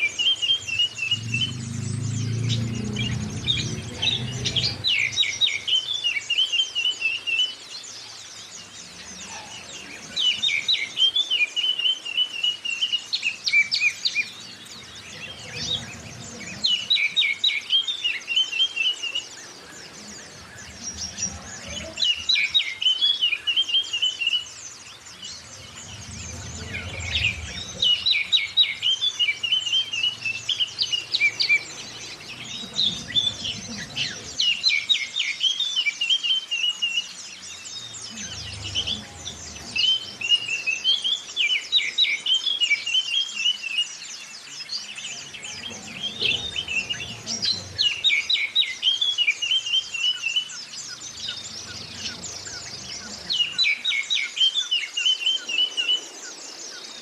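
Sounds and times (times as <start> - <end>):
bird song phrase with trill: 0.0 - 56.8
high bird twittering: 0.0 - 57.0.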